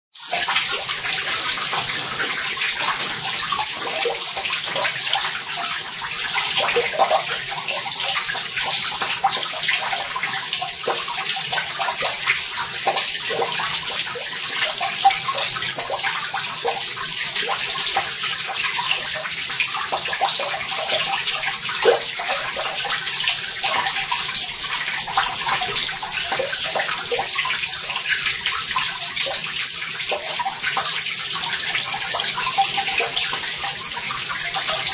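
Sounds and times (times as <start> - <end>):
water running over rock: 0.2 - 34.9.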